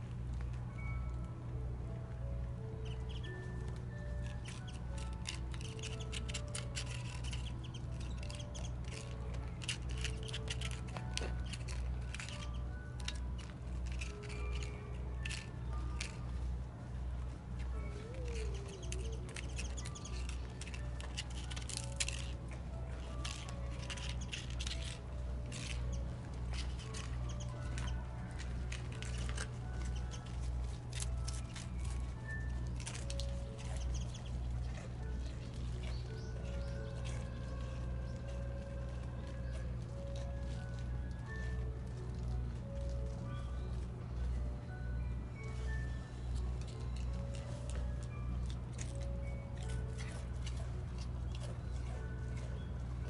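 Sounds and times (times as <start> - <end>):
low hum: 0.0 - 53.0
deer crunching a cracker: 3.2 - 44.5, 45.6 - 53.0.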